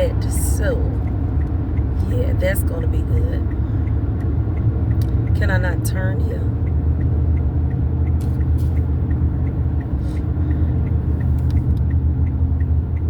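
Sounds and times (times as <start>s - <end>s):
engine and road rumble: 0.0s - 13.0s
turn signal ticking: 0.0s - 13.0s.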